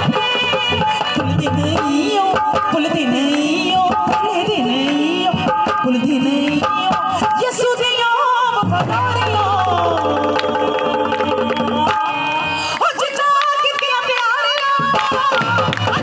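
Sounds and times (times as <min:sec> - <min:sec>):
instrumental accompaniment: 0:00.0 - 0:16.0
woman singing over loudspeakers: 0:00.0 - 0:16.0.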